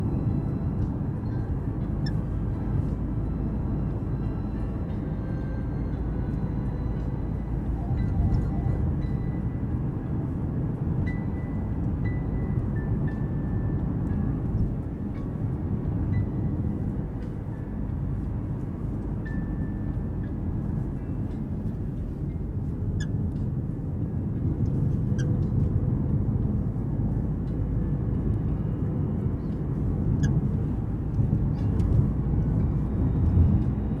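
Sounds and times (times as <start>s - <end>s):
car cabin low rumble: 0.0s - 34.0s.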